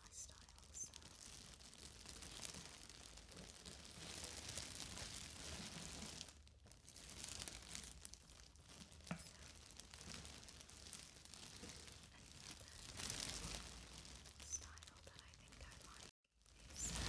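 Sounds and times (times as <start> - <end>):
plastic bag crinkling: 0.0 - 17.0
sharp plastic crackle: 0.0 - 17.0.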